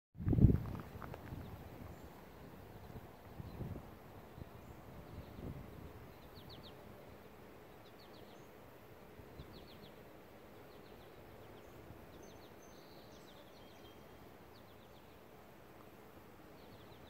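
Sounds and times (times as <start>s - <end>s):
bird chirping: 1.2s - 8.6s, 9.3s - 15.4s, 16.5s - 17.0s.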